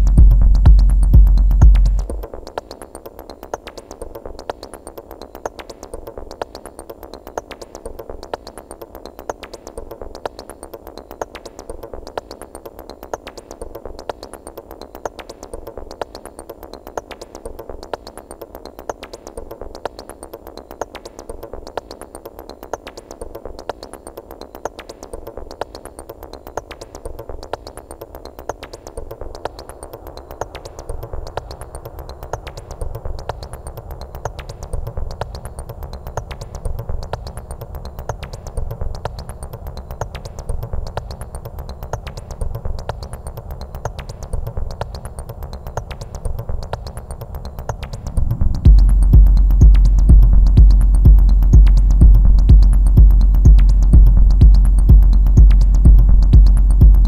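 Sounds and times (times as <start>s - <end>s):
fast ticking percussion: 0.0s - 57.0s.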